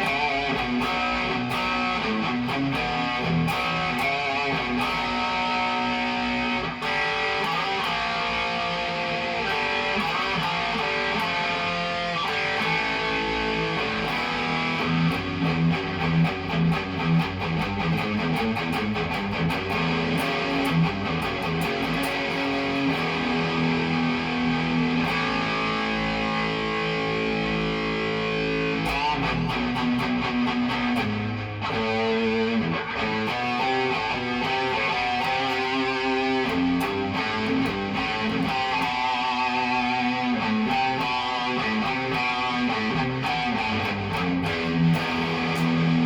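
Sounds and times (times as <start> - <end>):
guitar chords and picked notes: 0.0 - 46.0.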